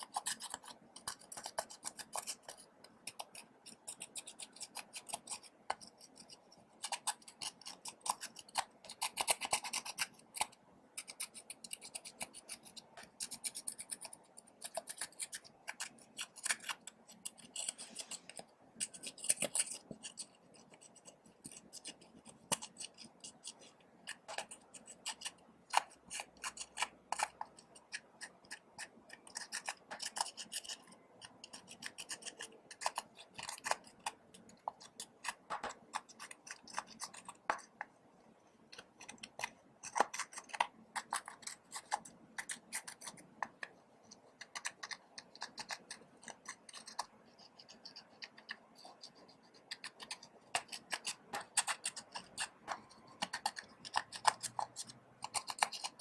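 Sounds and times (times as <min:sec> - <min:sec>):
sticky clicks and crackles of slime: 0:00.0 - 0:37.8, 0:38.7 - 0:56.0.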